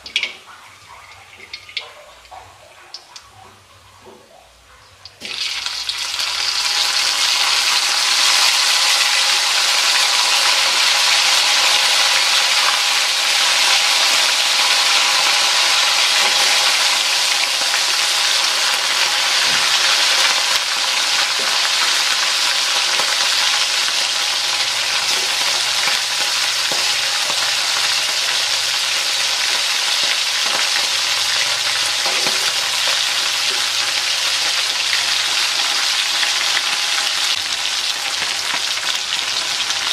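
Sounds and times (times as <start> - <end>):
meat sizzling in hot oil: 0.0 - 3.1, 5.0 - 39.9.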